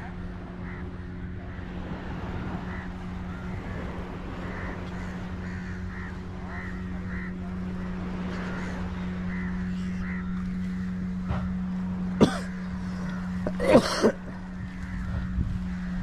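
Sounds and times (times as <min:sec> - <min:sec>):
steady low hum: 0:00.0 - 0:16.0
crows cawing: 0:00.6 - 0:16.0.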